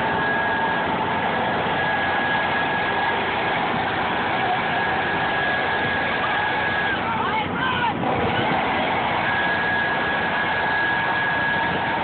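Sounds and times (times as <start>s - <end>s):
high constant whine: 0.0s - 12.0s
machine drone: 0.0s - 12.0s.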